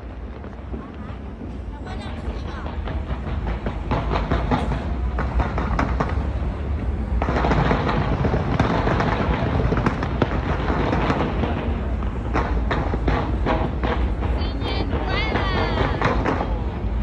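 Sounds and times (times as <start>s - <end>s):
fireworks bangs and crackle: 0.0s - 17.0s.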